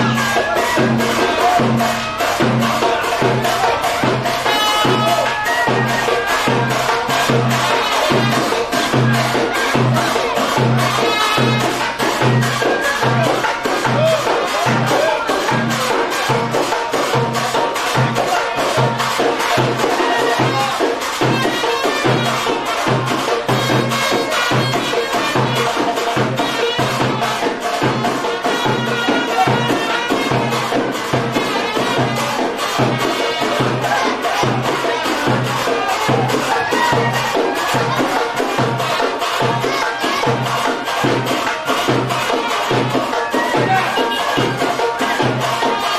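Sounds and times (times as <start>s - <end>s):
fast hand-percussion beat: 0.0s - 45.9s
live band music: 0.0s - 45.9s.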